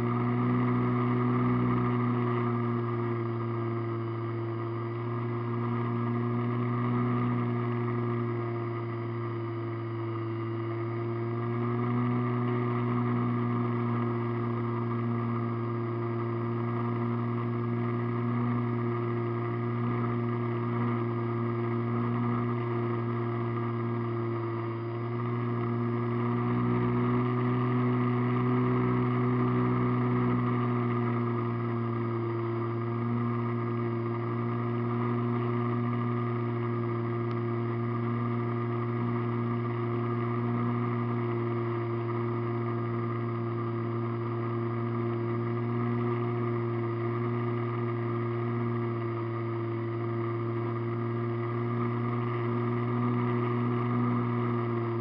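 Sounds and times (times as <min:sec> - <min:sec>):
model airplane motor droning: 0:00.0 - 0:55.0.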